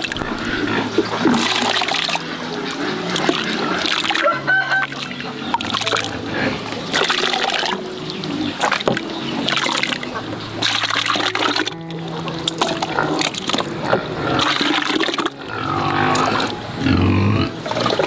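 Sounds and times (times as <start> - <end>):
background music: 0.0 - 18.0
water splashing and trickling: 0.0 - 18.0.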